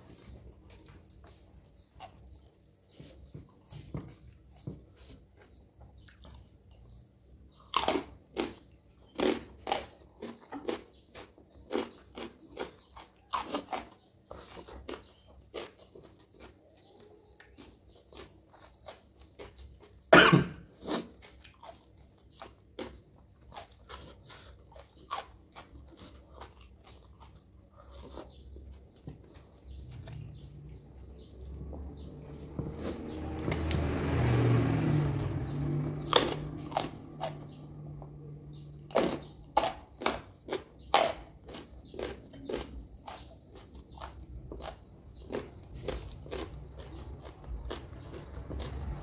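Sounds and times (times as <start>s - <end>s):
crunching bites of raw vegetables: 7.5s - 49.0s.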